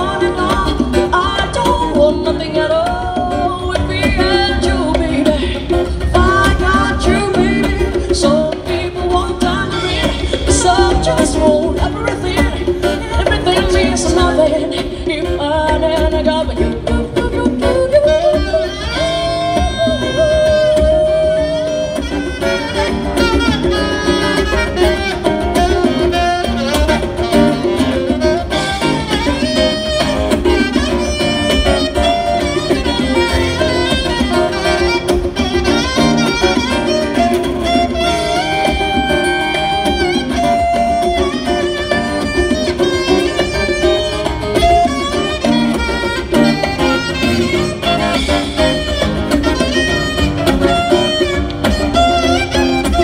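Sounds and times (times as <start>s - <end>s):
congas: 0.0s - 53.0s
saxophone melody: 0.0s - 53.0s
strummed guitar: 0.0s - 53.0s.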